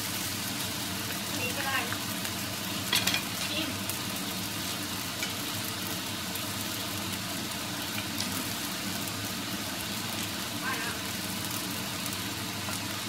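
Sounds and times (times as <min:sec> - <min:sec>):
fried rice sizzling in a pan: 0:00.0 - 0:13.0.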